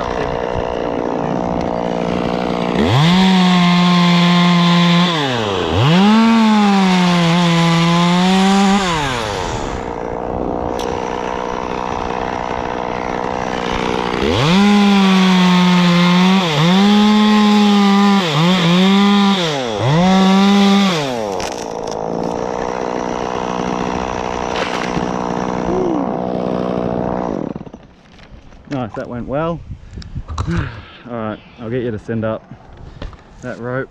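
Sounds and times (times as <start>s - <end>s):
chainsaw cutting wood: 0.0s - 28.4s.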